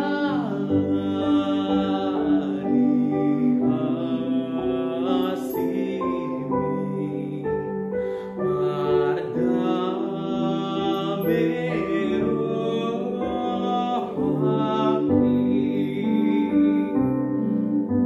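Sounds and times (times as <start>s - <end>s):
man singing slow song: 0.0s - 17.8s.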